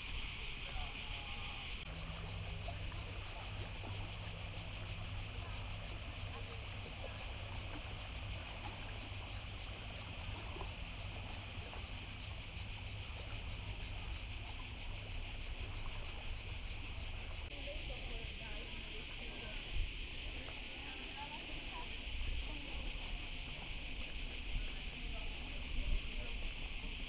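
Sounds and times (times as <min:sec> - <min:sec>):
cicadas chorus: 0:00.0 - 0:27.0
water lapping on rocky shore: 0:00.0 - 0:27.0.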